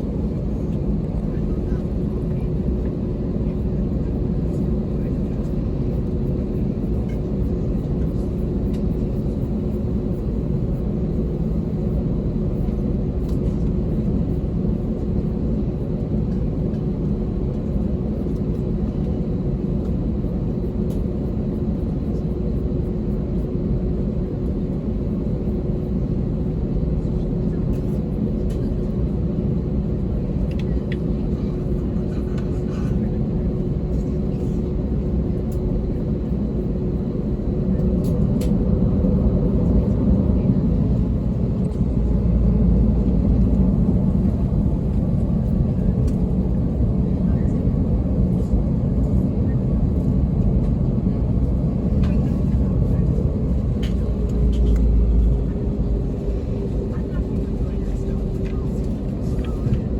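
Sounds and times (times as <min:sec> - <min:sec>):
airliner cabin rumble: 0:00.0 - 0:59.9
constant hum: 0:00.0 - 0:59.9.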